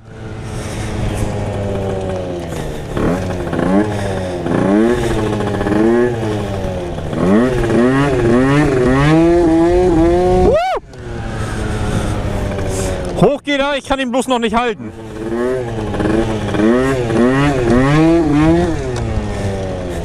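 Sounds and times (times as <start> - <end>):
scooter engine revving: 0.0 - 13.3, 14.8 - 20.0.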